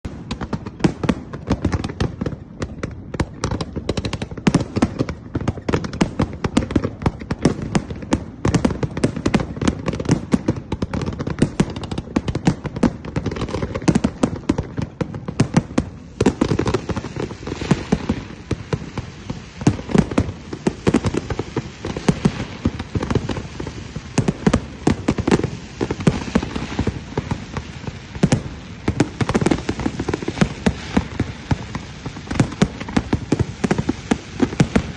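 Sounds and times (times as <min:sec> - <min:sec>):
fireworks bangs and crackle: 0:00.0 - 0:34.9.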